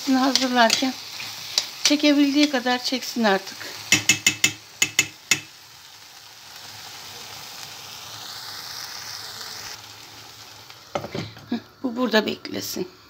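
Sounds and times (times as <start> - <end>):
pot sizzling with soft hiss: 0.0 - 13.0.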